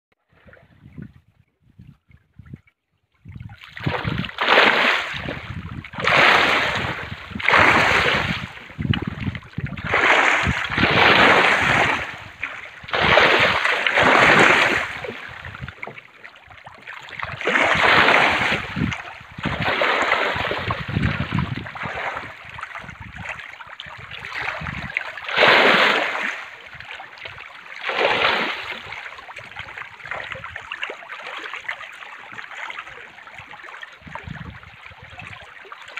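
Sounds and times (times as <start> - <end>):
fish splashing at water surface: 3.6 - 35.9.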